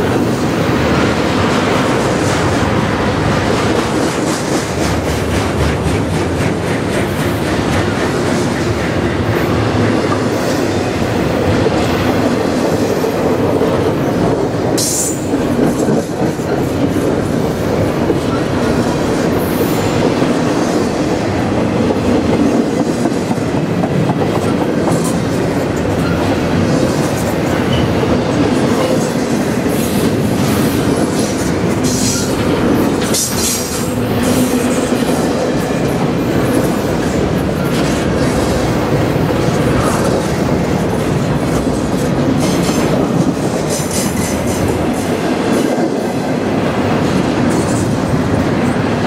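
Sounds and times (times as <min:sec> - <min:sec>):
freight train wheels rumbling on rails: 0:00.0 - 0:49.0.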